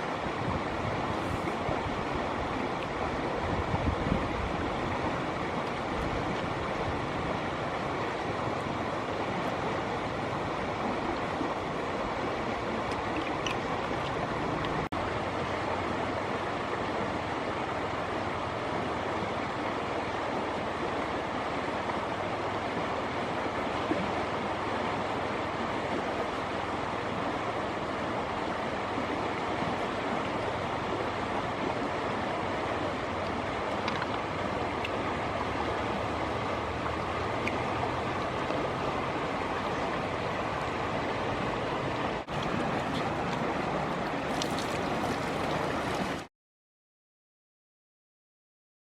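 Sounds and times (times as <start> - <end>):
river water rushing: 0.0 - 46.3.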